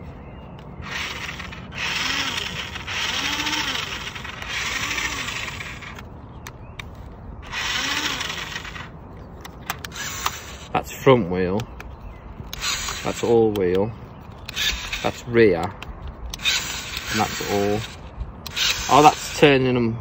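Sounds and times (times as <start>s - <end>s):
toy car motors whirring: 0.8s - 6.1s, 7.4s - 11.0s, 12.4s - 19.8s.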